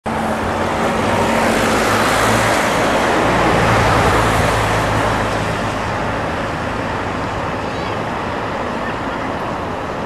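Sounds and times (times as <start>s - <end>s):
tyres and passing cars rushing: 0.0s - 10.0s
vehicle engine hum: 0.0s - 10.0s.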